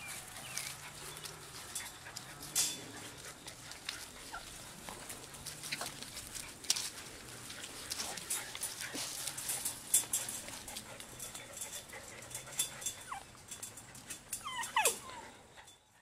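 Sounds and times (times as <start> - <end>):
rustling in grass and leaves: 0.0 - 15.3
puppies yipping: 0.0 - 15.8.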